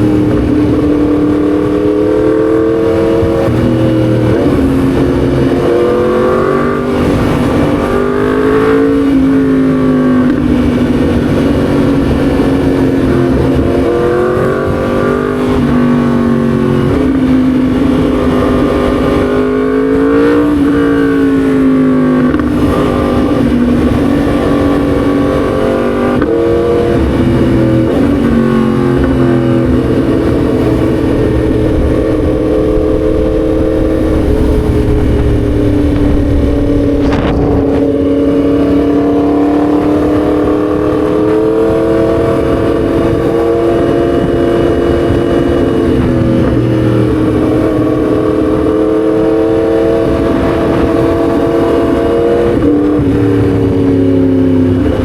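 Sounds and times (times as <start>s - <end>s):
motorcycle engine accelerating: 0.0s - 55.0s
road and wind noise: 0.0s - 55.0s.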